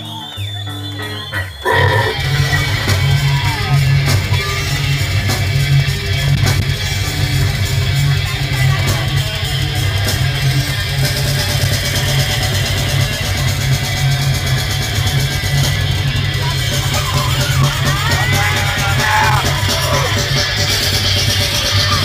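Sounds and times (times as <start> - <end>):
death metal band playing: 0.0 - 22.0.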